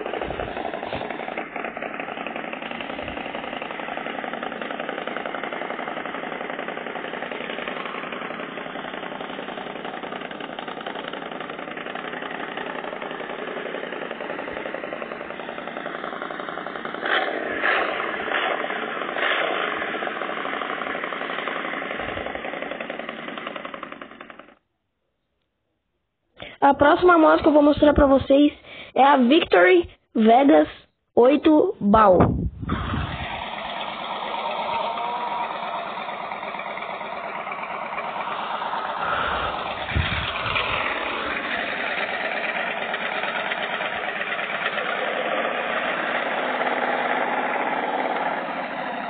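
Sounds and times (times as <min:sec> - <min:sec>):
motorcycle engine running and revving: 0:00.0 - 0:24.6, 0:32.7 - 0:49.0.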